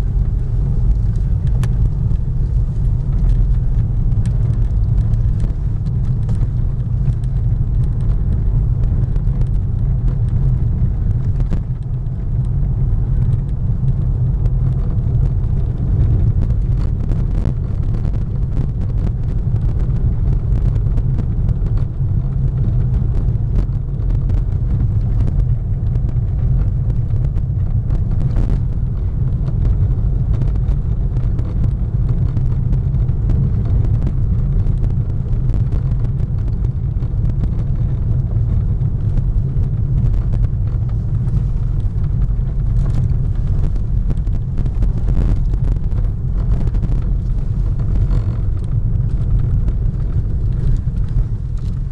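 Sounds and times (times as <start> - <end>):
car engine low rumble: 0.0 - 51.9.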